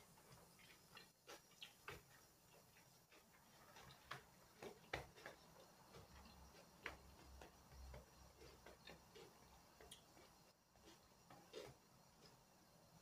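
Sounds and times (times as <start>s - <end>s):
mouth clicks chewing noodles: 0.6s - 12.4s.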